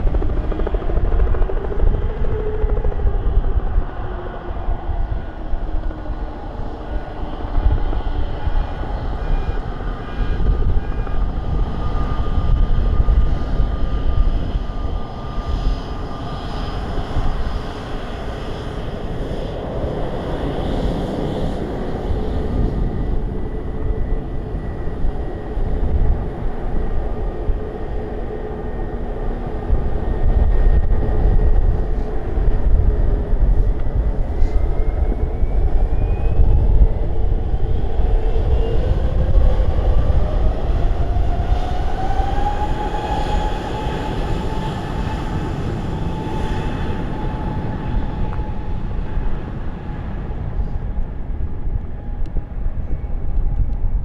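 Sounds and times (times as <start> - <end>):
jet engines whining: 0.0 - 54.0
wind buffeting microphone: 0.0 - 54.0.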